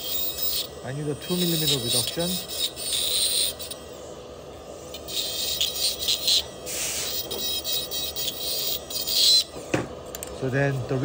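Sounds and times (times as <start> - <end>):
dental drill whine: 0.0 - 11.0.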